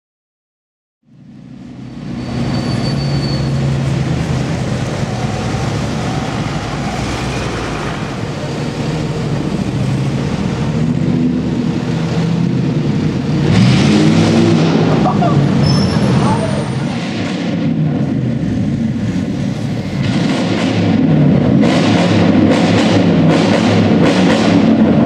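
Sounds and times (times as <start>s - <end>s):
traffic engines idling: 1.1s - 25.0s.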